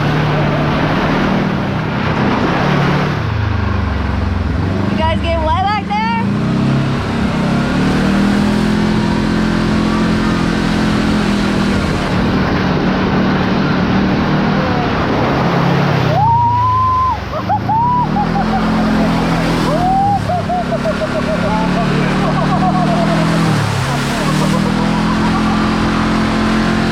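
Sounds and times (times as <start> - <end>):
tyre and drivetrain noise: 0.0 - 26.9
vehicle engine running: 0.0 - 26.9.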